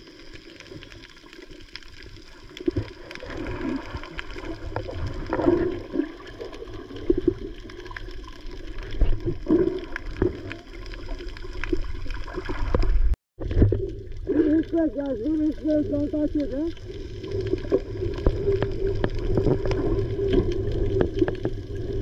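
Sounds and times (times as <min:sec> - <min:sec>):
muffled underwater sloshing: 0:00.0 - 0:22.0.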